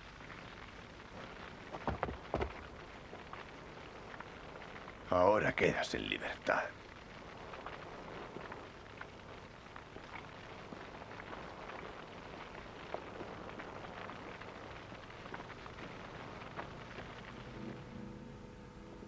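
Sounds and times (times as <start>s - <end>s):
faint crackles: 0.0s - 19.0s
steady hiss: 0.0s - 19.0s.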